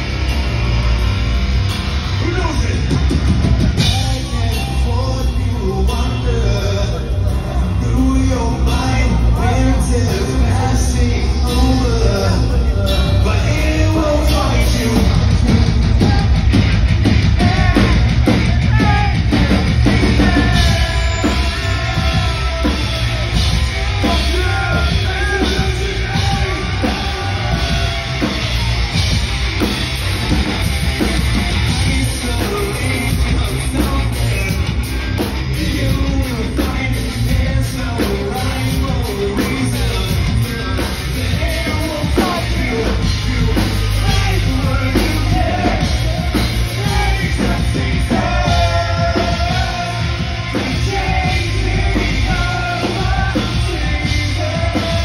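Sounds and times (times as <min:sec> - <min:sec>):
drum kit: 0:00.0 - 0:55.0
person singing and yelling: 0:03.7 - 0:29.1, 0:35.2 - 0:55.0.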